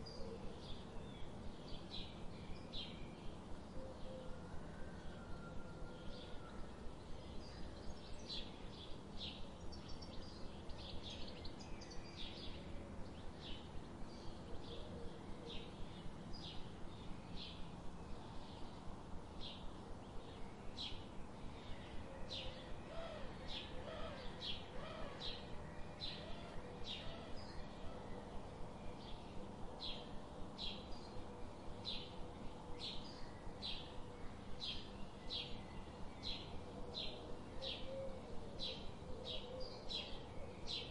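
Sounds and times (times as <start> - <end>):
faint background hiss: 0.0 - 40.9.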